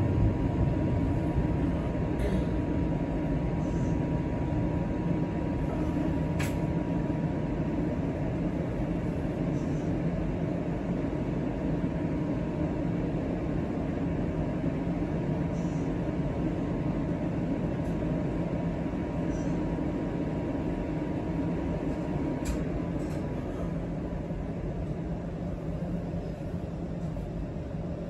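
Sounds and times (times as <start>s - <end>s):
streetcar running hum: 0.0s - 28.0s.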